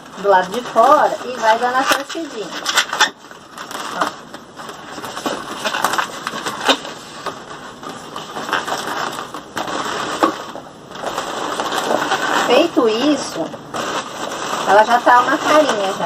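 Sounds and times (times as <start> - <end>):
balloons rubbing and clicking: 0.0 - 16.0.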